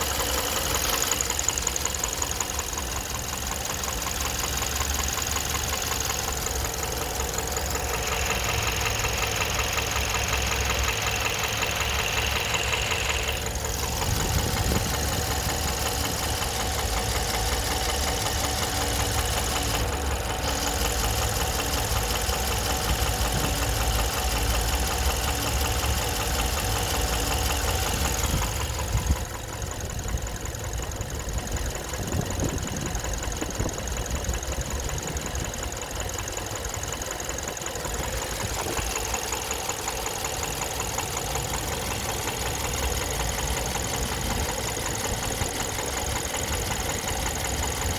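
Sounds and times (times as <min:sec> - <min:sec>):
car engine knocking: 0:00.0 - 0:47.9.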